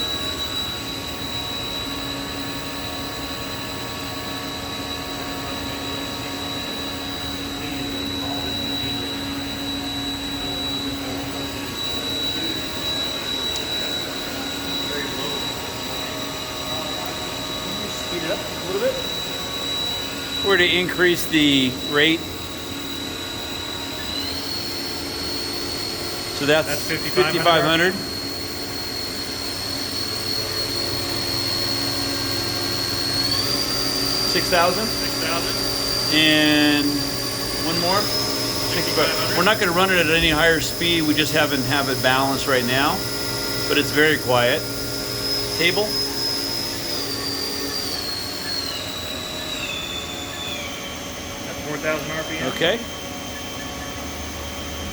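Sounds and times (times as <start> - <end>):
machine hum: 0.0 - 54.9
machine spindle high whine: 0.0 - 54.9.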